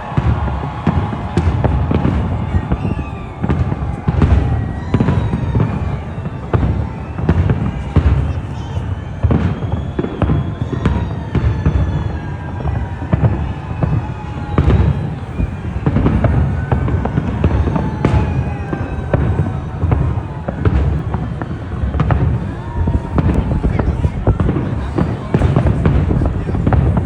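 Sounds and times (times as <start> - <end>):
fireworks bangs and crackles: 0.0 - 27.0
whistling fireworks falling in pitch: 0.0 - 27.0.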